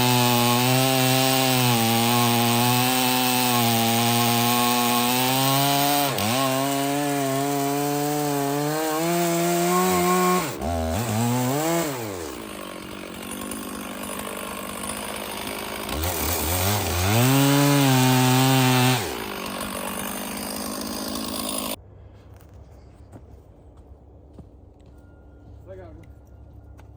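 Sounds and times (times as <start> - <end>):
chainsaw cutting wood: 0.0 - 21.8.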